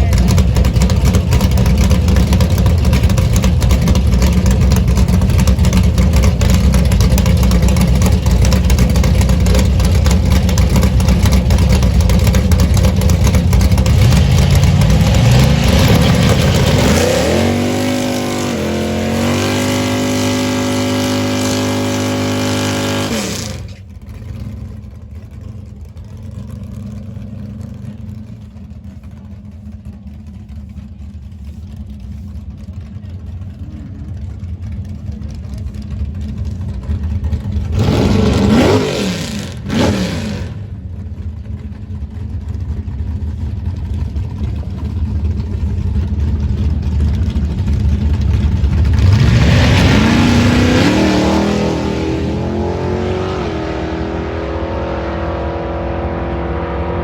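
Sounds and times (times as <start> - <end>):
loud drag car engine: 0.0 - 57.0.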